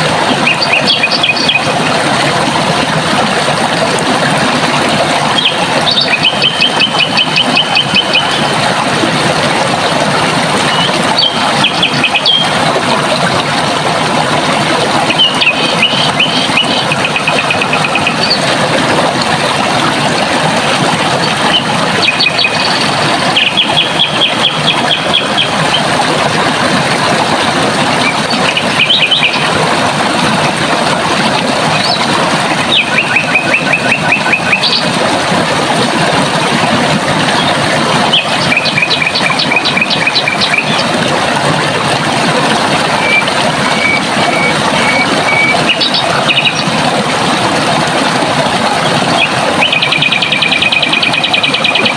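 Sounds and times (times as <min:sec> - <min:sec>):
running water rushing: 0:00.0 - 0:51.9.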